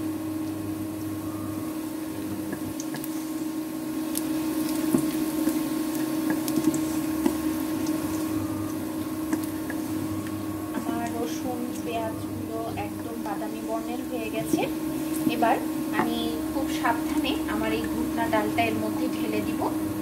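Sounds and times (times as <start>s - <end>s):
onion and garlic sizzling in oil: 0.0s - 20.0s
steady hum: 0.0s - 20.0s.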